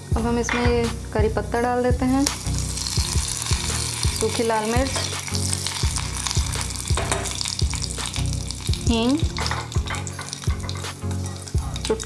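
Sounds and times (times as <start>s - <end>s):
background music: 0.0s - 12.0s
spices sizzling in hot oil: 1.7s - 12.0s.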